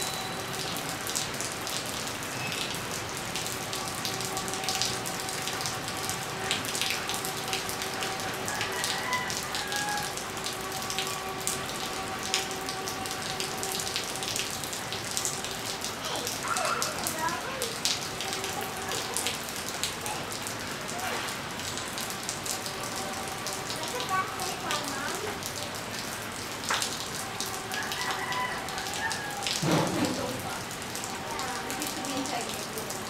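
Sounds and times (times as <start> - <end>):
rain on concrete and puddles: 0.0 - 33.0.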